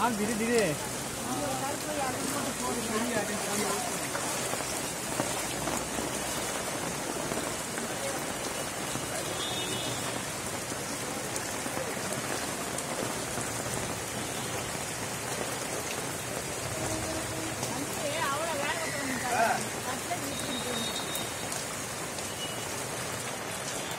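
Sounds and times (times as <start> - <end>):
heavy rain on water: 0.0 - 23.9
rain on an umbrella: 0.0 - 23.9.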